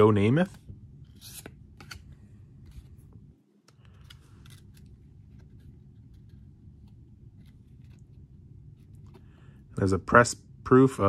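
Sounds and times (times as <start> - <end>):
low steady hum: 0.0 - 11.0
cards clicking and scraping: 0.5 - 9.4.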